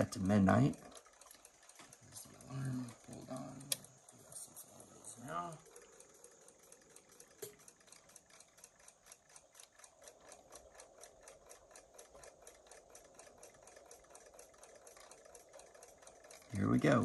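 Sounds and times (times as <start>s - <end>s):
alarm clock ticking: 0.0s - 17.0s.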